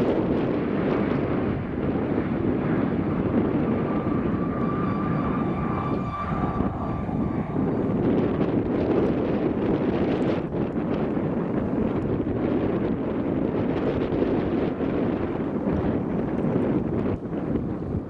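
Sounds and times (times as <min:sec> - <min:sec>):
jet engine whine: 0:00.0 - 0:18.0
low rumble: 0:00.0 - 0:18.0
wind buffeting microphone: 0:00.0 - 0:18.0.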